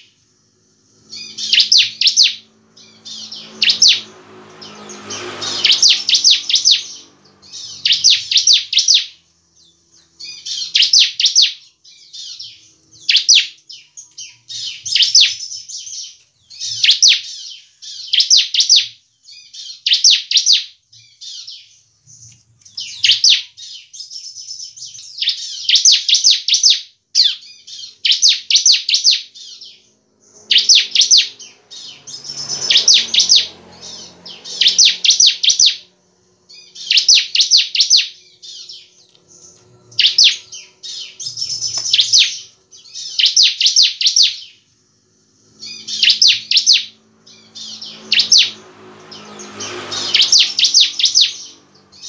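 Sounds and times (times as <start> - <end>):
bird singing high rapid notes: 0.0 - 52.0.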